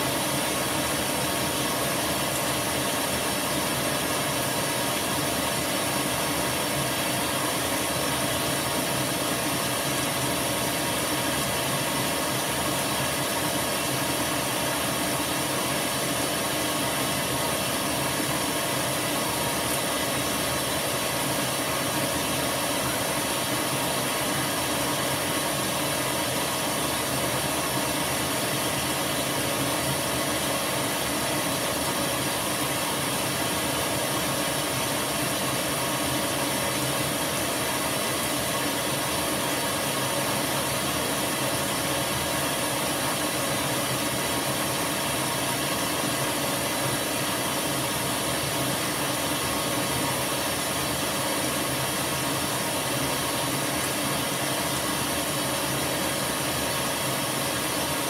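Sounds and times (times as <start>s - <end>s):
water running into washing machine: 0.0s - 58.0s.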